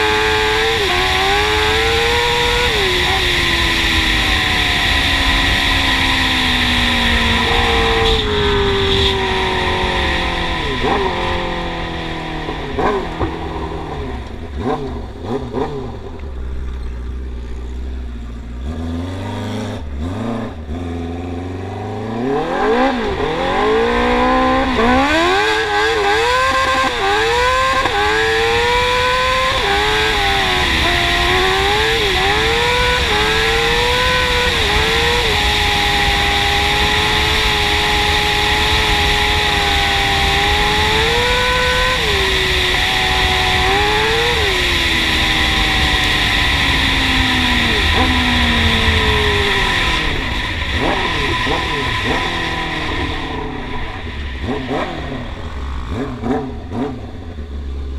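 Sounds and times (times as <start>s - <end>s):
quad engine revving: 0.0s - 16.8s, 17.9s - 57.9s.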